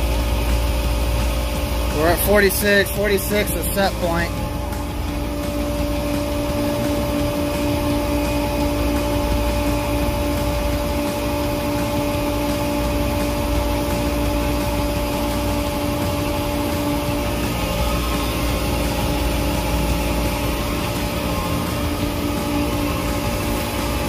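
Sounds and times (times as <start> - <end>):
compressor humming: 0.0 - 24.0.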